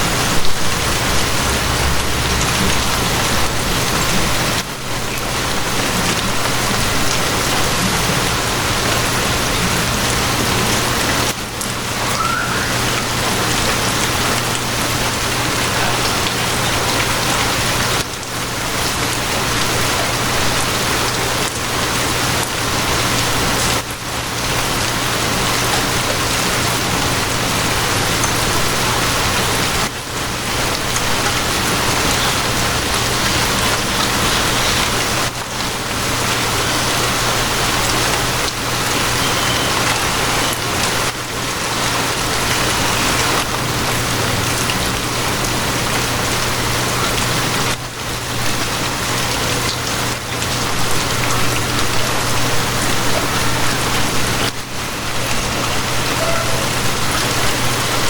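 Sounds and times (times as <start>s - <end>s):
steady dense rain: 0.0s - 58.0s.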